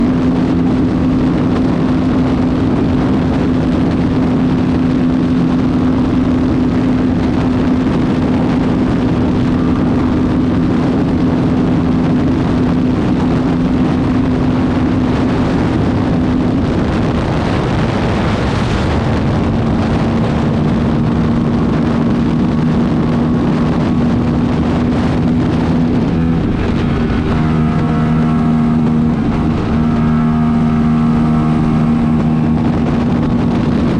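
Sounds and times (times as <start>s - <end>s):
motorcycle engine at high revs: 0.0s - 33.9s
rushing wind noise: 0.0s - 33.9s.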